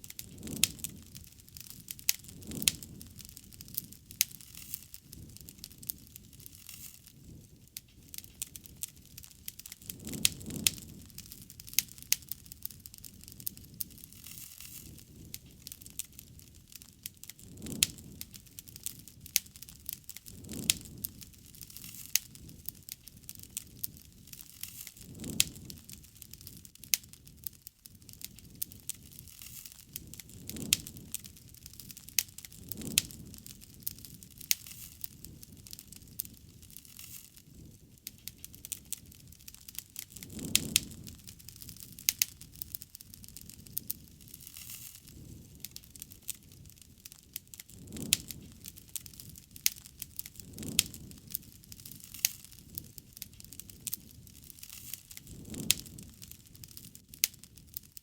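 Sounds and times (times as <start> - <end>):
low rush of flames: 0.0 - 58.0
wood fire crackling: 0.0 - 58.0.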